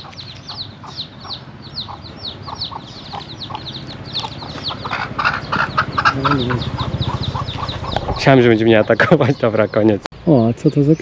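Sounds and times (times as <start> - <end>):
chickens clucking: 0.0 - 11.0
chicks peeping: 0.0 - 11.0.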